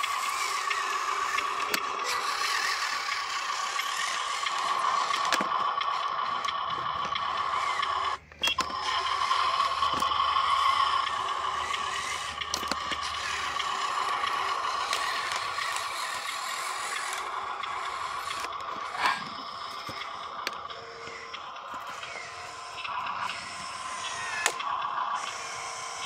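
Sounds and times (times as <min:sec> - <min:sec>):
chassis rattling and clatter: 0:00.0 - 0:26.0
toy truck electric motor whine: 0:00.0 - 0:26.0.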